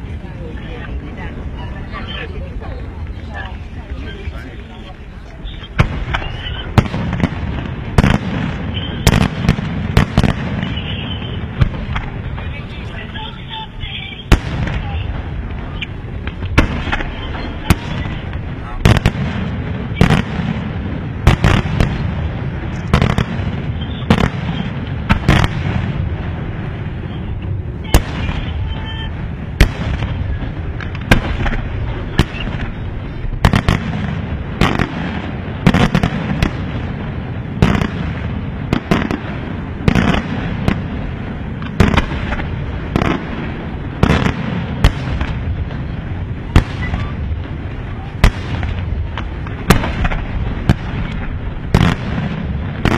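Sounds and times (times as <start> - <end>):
continuous low rumble: 0.0 - 52.9.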